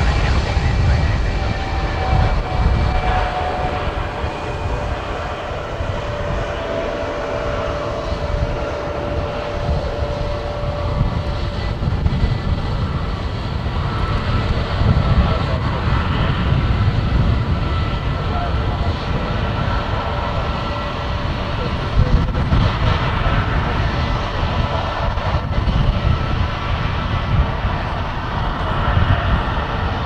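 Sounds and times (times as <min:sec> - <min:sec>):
jet engine roar: 0:00.0 - 0:30.0.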